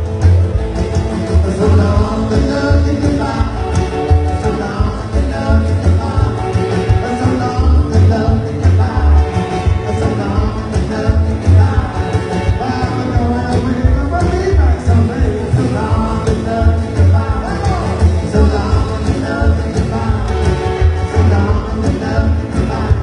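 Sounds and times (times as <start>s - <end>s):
band music: 0.0s - 23.0s
pulsing bass line: 0.0s - 23.0s
person singing: 0.8s - 23.0s.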